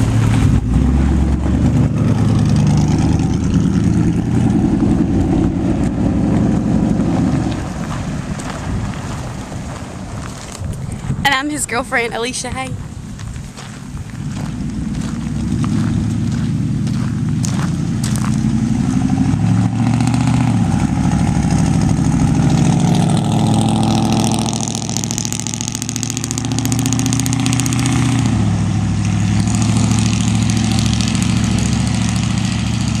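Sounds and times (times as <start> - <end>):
truck engine pulling away: 0.0 - 11.3, 13.8 - 33.0.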